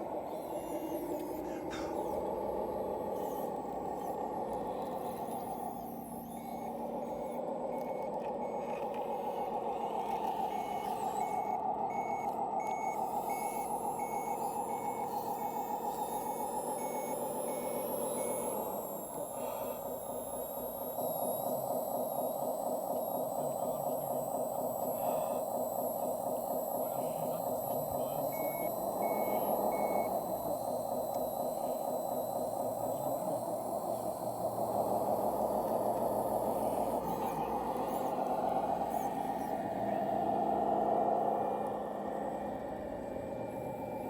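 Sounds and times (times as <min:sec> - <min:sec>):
reversing beeper: 0:00.0 - 0:44.0
simulated diesel engine: 0:00.0 - 0:44.0.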